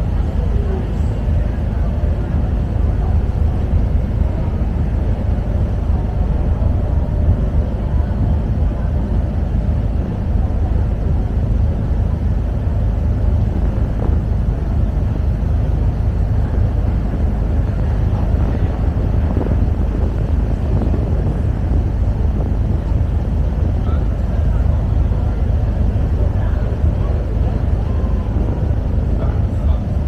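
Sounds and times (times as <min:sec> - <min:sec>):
ferry engines rumbling: 0:00.0 - 0:30.0.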